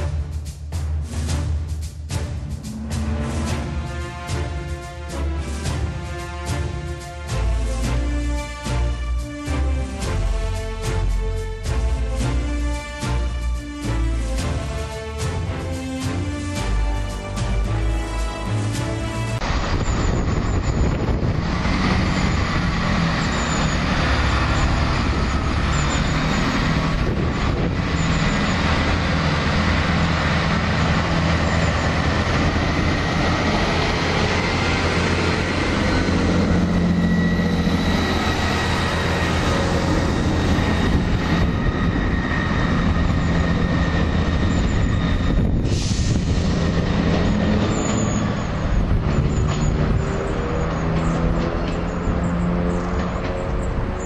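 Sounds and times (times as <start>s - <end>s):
diesel train engines droning: 0.0s - 54.0s.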